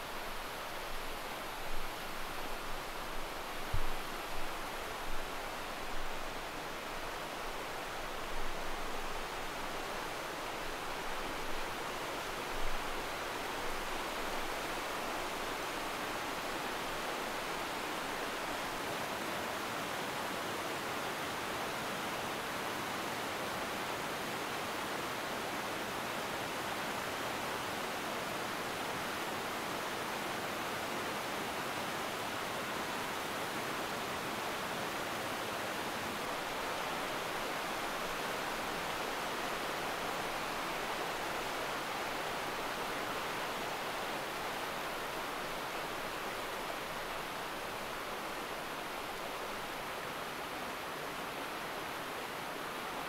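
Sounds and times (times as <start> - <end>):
stream and waterfall rushing: 0.0 - 53.0.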